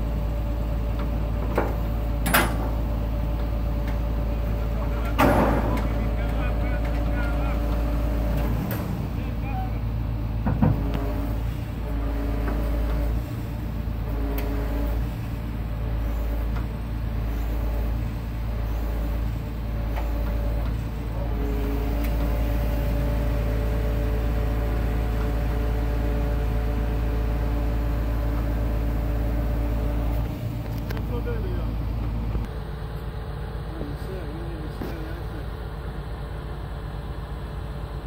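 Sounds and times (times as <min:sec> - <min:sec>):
diesel engine droning: 0:00.0 - 0:38.0
hydraulic whining tones: 0:00.0 - 0:38.0.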